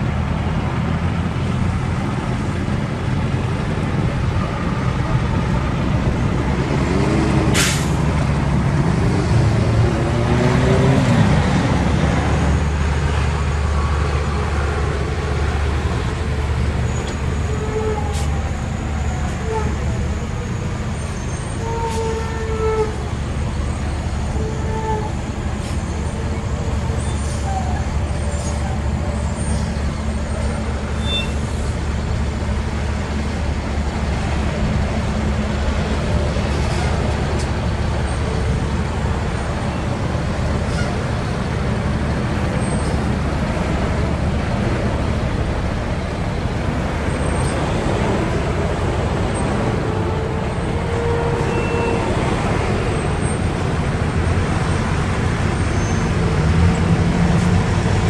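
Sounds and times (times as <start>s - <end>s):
diesel engine rumble: 0.0s - 58.0s
tyre and traffic noise: 0.0s - 58.0s.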